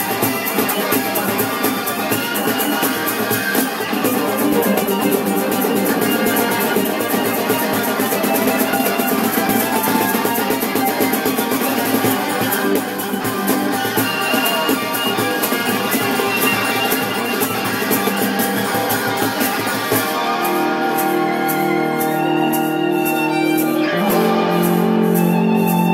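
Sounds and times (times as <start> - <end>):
guitar: 0.0 - 25.9
percussion beat: 0.0 - 25.9
street band playing: 0.0 - 25.9.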